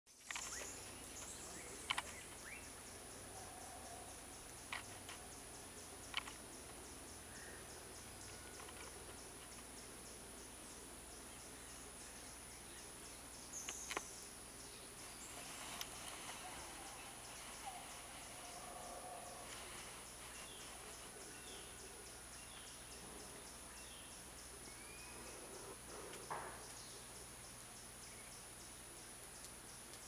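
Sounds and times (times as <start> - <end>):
fast ticking insect chirp: 0.1 - 30.0
insects droning: 0.1 - 30.0.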